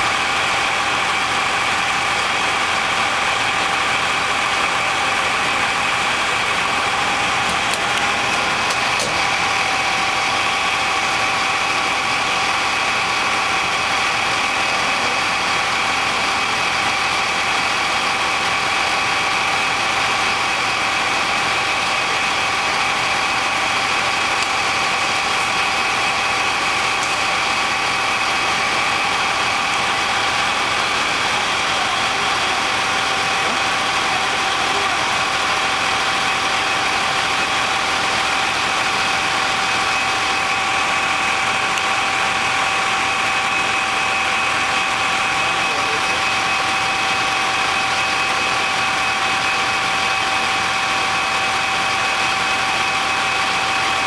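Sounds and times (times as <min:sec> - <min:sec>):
fire engine droning: 0:00.0 - 0:54.0
steady whine: 0:00.0 - 0:54.0.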